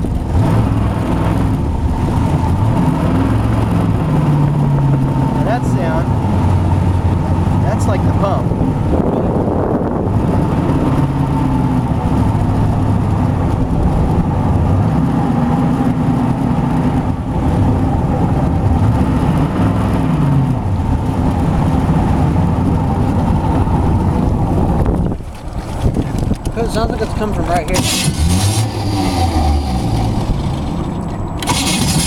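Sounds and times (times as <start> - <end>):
jet boat engine running: 0.0 - 32.0.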